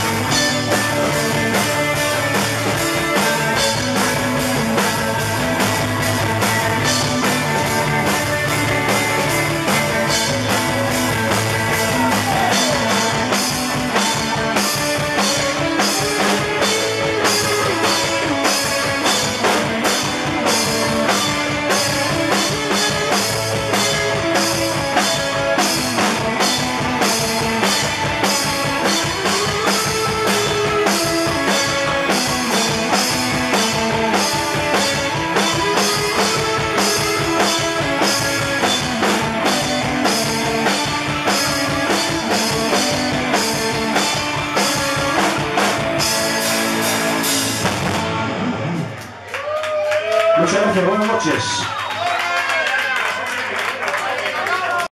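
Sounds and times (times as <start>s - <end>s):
drum kit steady beat: 0.0s - 49.2s
electric guitar: 0.0s - 53.2s.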